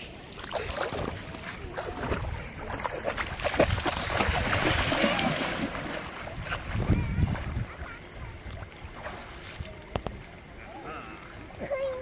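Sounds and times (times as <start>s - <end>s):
water splashing: 0.0s - 12.0s
wind noise on microphone: 0.8s - 10.4s.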